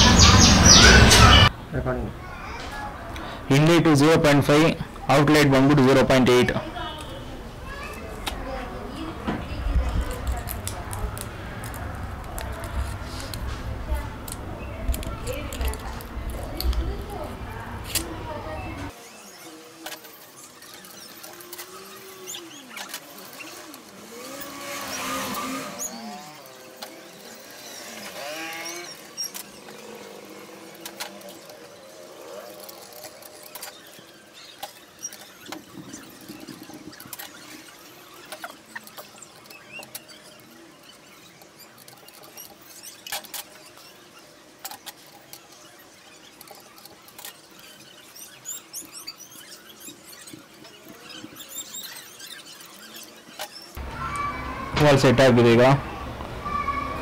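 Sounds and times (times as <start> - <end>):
high squeaks: 4.0 - 55.7, 56.4 - 57.0.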